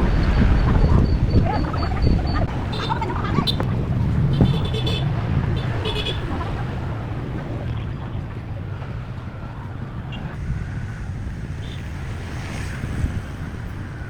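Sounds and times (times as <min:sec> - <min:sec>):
vehicle low rumble: 0:00.0 - 0:14.0
wind noise on microphone: 0:00.0 - 0:14.0.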